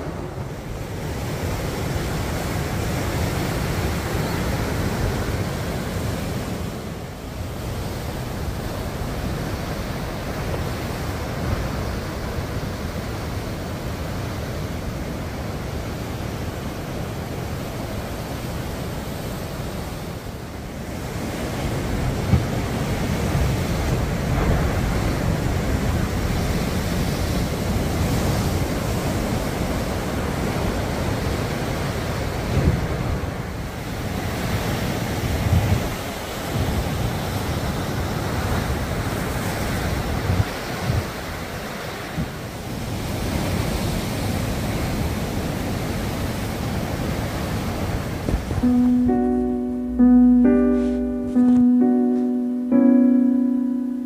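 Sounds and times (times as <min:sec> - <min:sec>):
waves crashing on rocks: 0:00.0 - 0:48.5.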